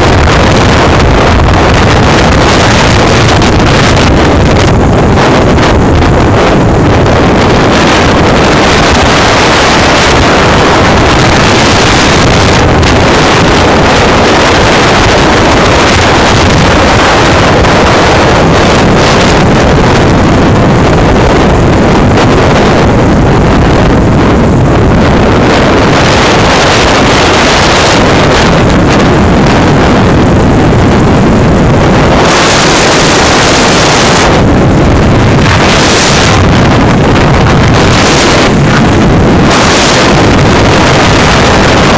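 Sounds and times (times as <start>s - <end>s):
low rumble: 0.0s - 41.9s
wind rush buffeting microphone: 0.0s - 41.9s.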